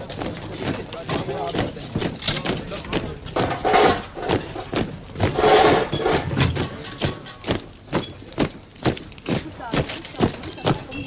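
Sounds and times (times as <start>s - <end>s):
marching boots on pavement: 0.0s - 11.0s.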